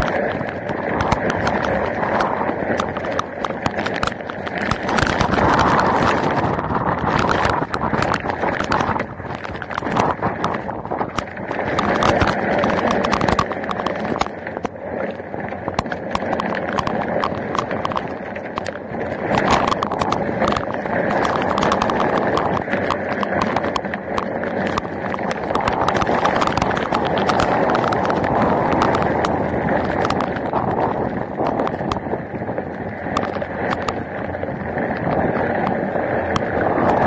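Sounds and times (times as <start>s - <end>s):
raindrops tapping on camera: 0.0s - 37.0s.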